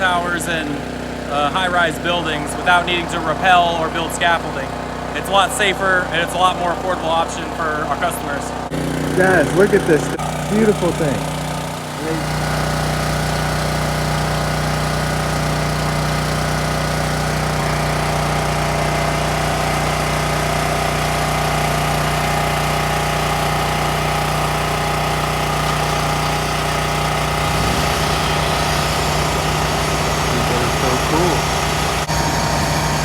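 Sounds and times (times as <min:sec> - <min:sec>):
drone machine hum: 0:00.0 - 0:21.9, 0:22.7 - 0:33.0.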